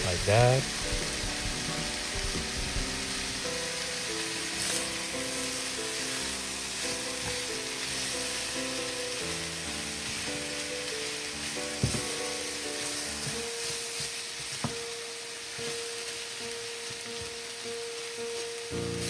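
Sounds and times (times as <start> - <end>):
background music: 0.0 - 19.0
chicken sizzling in a pan: 0.0 - 19.0.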